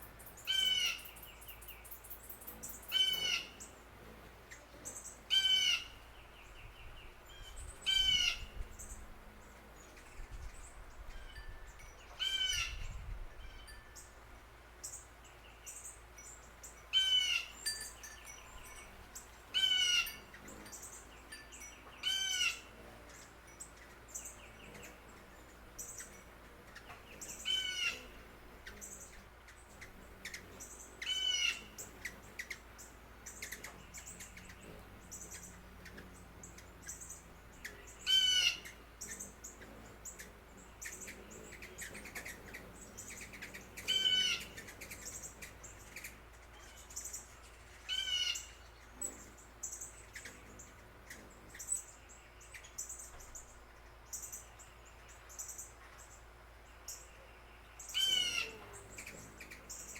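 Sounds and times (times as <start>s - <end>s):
faint high bird chirps: 0.0s - 14.2s, 14.8s - 59.9s.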